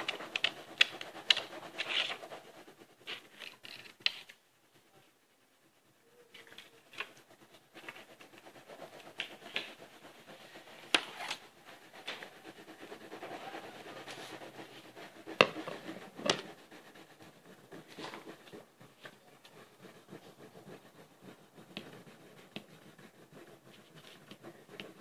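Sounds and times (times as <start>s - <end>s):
crayon scratching on paper: 0.0s - 4.4s, 6.1s - 25.0s.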